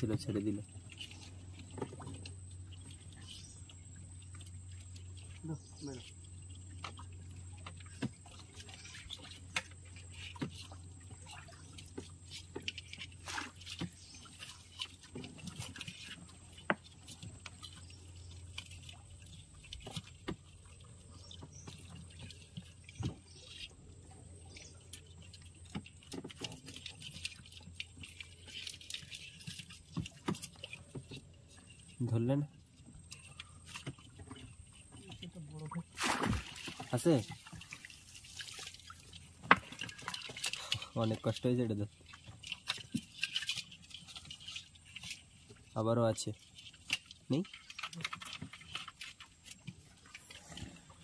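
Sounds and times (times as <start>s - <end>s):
water dripping and splashing: 0.0s - 51.0s.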